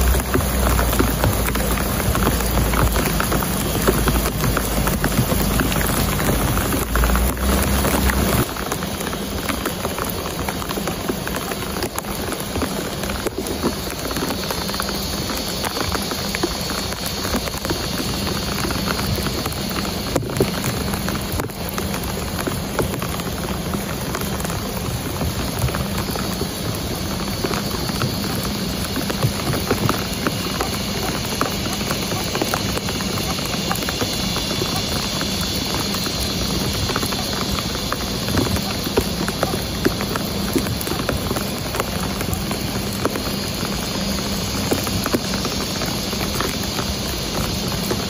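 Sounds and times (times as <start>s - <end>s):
rain on grass and leaves: 0.0s - 48.0s.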